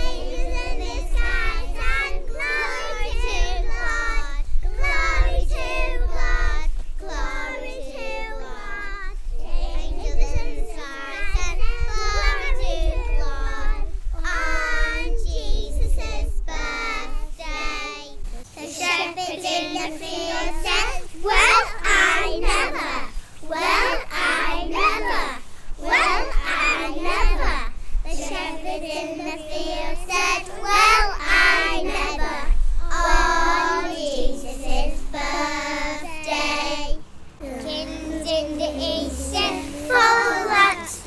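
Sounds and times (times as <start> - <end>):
children singing: 0.0 - 41.0.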